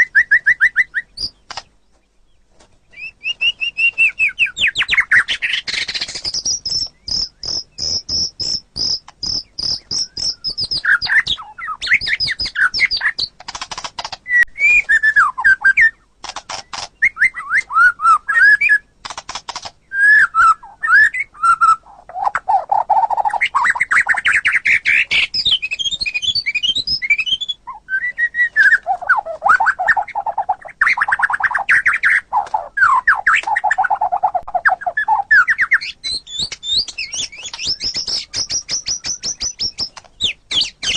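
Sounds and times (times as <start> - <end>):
songbird singing varied song: 0.0 - 40.9.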